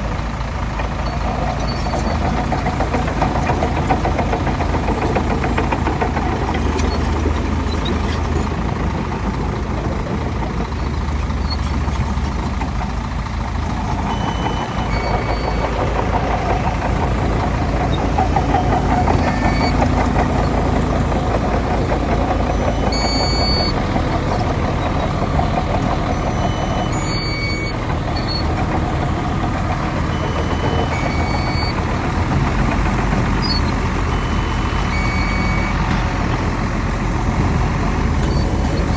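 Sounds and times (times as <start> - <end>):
diesel earthmoving machinery: 0.0 - 38.9.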